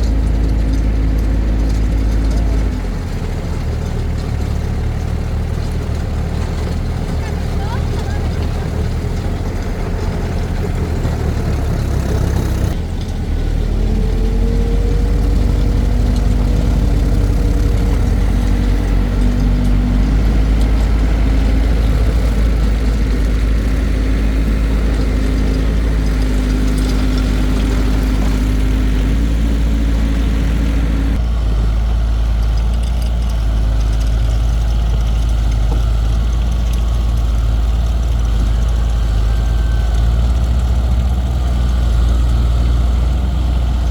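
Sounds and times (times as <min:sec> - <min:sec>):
heavy engine droning: 0:00.0 - 0:43.9.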